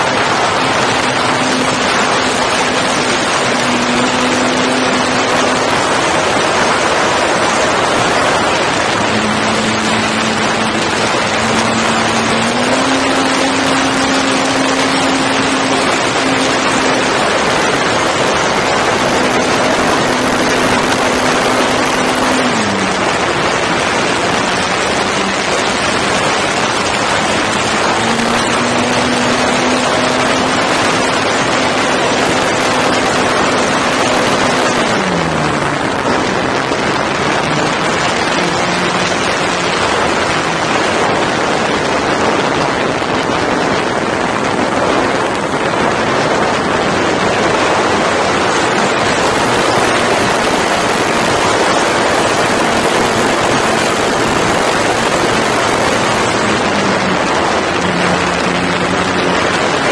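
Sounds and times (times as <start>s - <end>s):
model plane motor humming: 0.0s - 42.4s, 46.0s - 59.9s
wind rushing over microphone: 0.0s - 59.9s.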